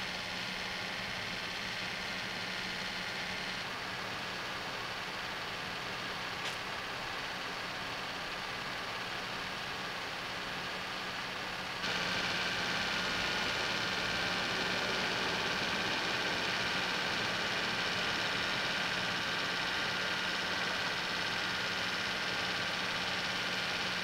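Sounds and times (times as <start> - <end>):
idling vehicle engine hum: 0.0 - 24.0.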